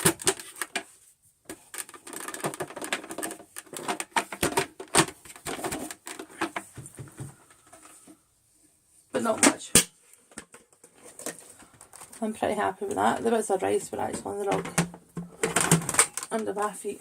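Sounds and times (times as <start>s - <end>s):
handling clicks and rustles: 0.0s - 8.2s, 9.2s - 16.7s.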